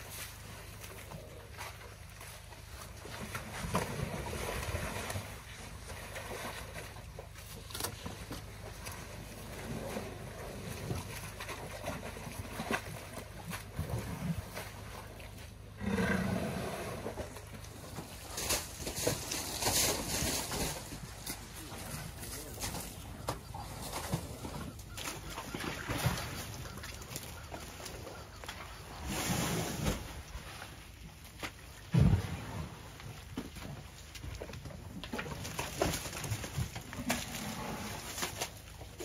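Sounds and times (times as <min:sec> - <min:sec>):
mud sloshing and squelching: 0:00.0 - 0:15.8, 0:16.4 - 0:39.0.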